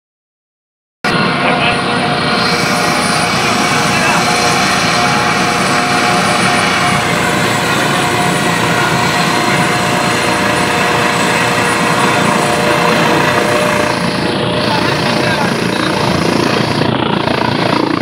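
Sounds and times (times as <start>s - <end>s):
helicopter engine whine: 1.0s - 18.0s
helicopter rotor and exhaust noise: 1.0s - 18.0s.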